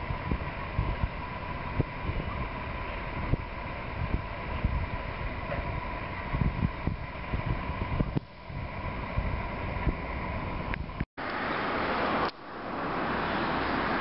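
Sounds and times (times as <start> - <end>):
thin steady whine: 0.0 - 14.0
wind buffeting microphone: 0.0 - 14.0.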